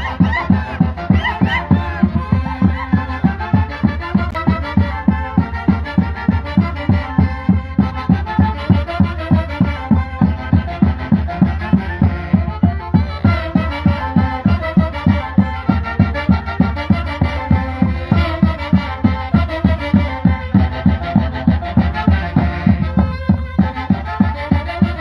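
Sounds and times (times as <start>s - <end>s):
saxophones playing melody: 0.0s - 25.0s
steady drum beat: 0.0s - 25.0s.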